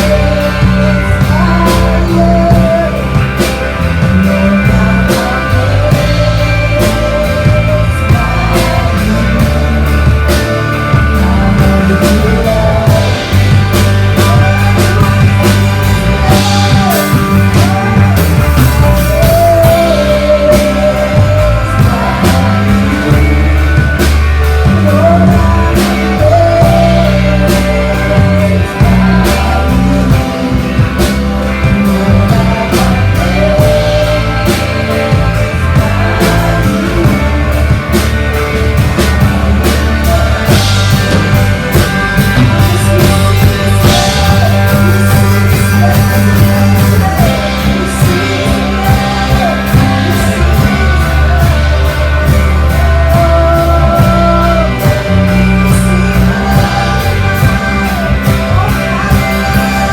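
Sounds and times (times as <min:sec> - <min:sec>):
live band playing worship song: 0:00.0 - 0:59.9
person singing: 0:00.0 - 0:59.9.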